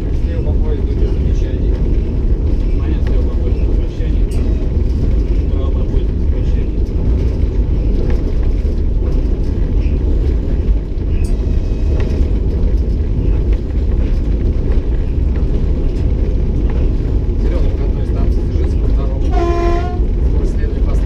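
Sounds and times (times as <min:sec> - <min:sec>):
electric locomotive rumbling: 0:00.0 - 0:21.0.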